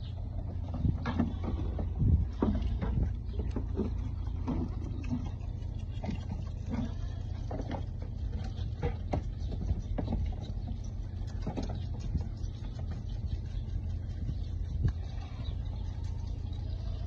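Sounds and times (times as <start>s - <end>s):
steady low rumble: 0.0s - 17.0s
goat kids bleating: 0.6s - 17.0s.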